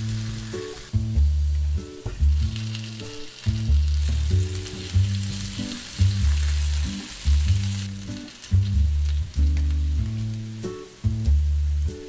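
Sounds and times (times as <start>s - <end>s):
music with deep bass line: 0.0s - 12.0s
potatoes sizzling in a frying pan: 0.0s - 12.0s.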